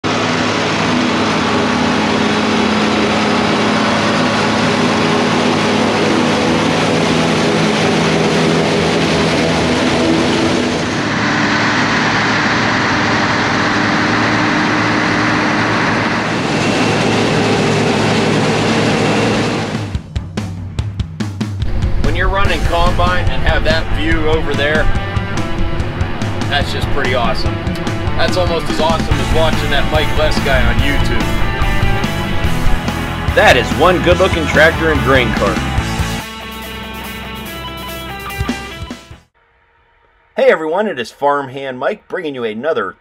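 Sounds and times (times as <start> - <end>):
diesel tractor engines: 0.0 - 20.1, 21.6 - 39.0
silage machinery running: 0.0 - 39.1.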